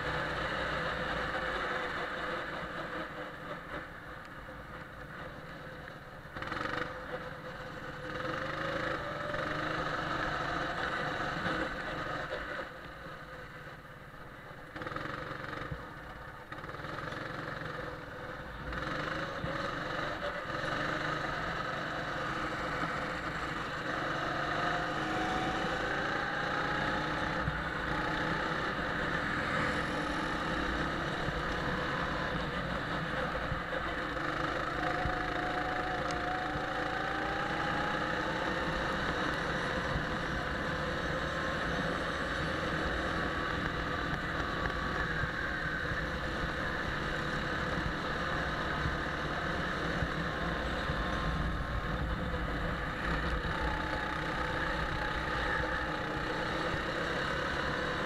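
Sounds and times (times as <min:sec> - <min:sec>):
go-kart engine accelerating: 0:00.0 - 0:13.8, 0:14.6 - 0:58.0.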